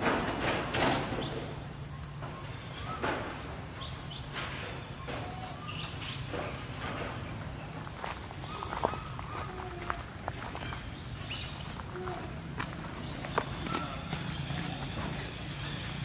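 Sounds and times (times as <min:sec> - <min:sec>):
outdoor background noise: 0:00.0 - 0:16.0
chirping animal calls: 0:01.2 - 0:06.8, 0:08.4 - 0:16.0.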